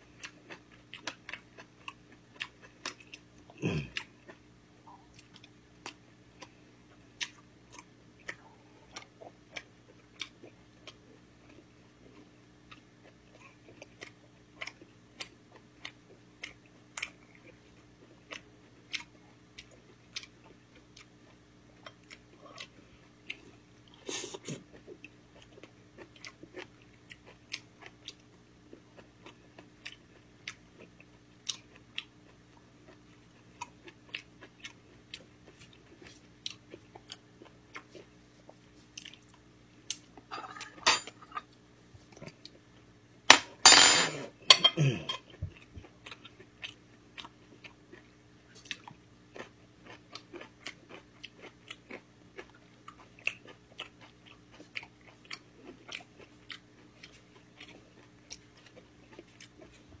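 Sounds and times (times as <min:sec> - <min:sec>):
person chewing: 0:00.1 - 0:06.6, 0:07.2 - 0:41.4, 0:44.1 - 0:59.9.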